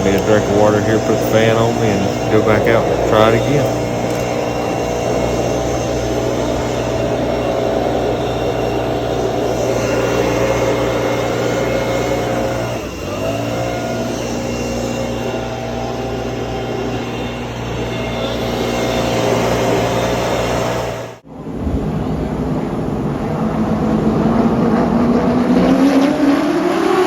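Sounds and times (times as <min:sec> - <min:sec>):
race car engine running: 0:00.0 - 0:21.3, 0:22.0 - 0:27.0.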